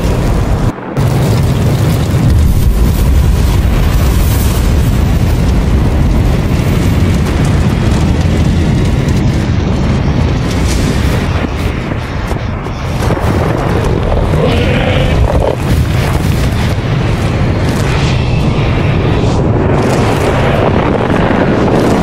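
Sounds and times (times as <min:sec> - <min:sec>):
deep rumbling roar: 0:00.0 - 0:22.0
rushing noise: 0:00.0 - 0:22.0.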